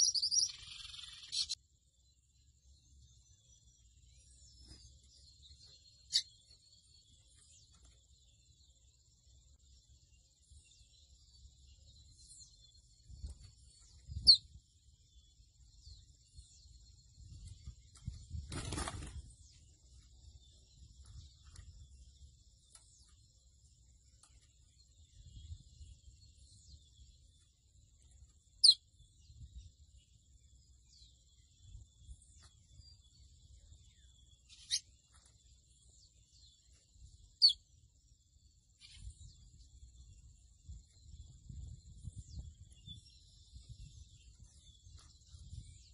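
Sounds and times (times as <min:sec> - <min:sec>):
bird chirps: 0:00.0 - 0:45.9.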